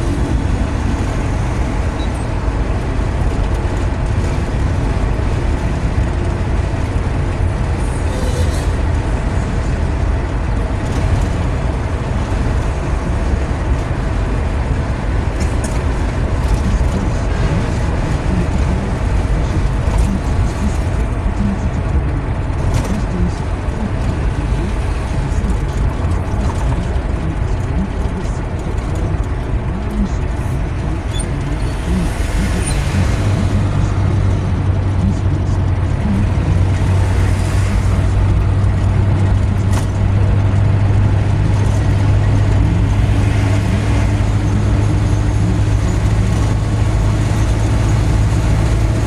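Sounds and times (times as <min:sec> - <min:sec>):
car road noise inside cabin: 0:00.0 - 0:49.0.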